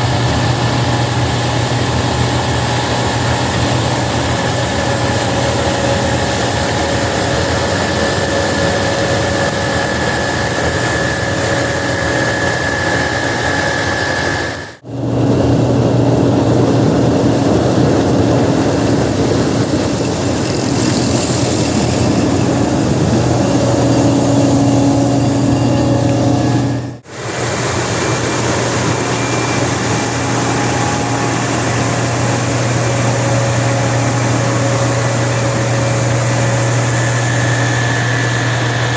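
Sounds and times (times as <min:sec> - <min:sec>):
harvester engine humming: 0:00.0 - 0:38.9.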